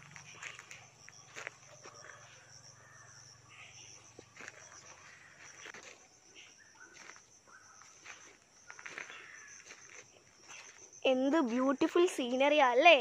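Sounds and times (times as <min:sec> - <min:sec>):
footsteps through undergrowth: 0:00.0 - 0:02.5, 0:03.8 - 0:12.3
insect chirring: 0:00.0 - 0:13.0.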